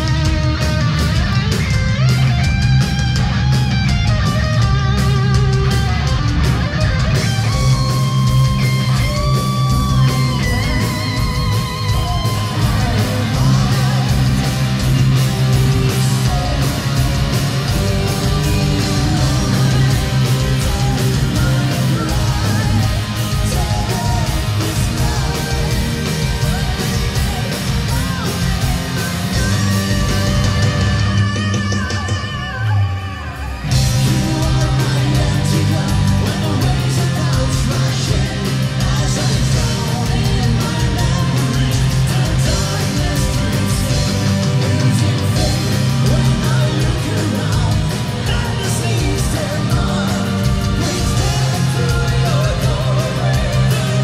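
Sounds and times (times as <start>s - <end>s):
fast drumming: 0.0s - 32.8s, 33.6s - 54.0s
distorted electric guitar lead: 0.0s - 54.0s.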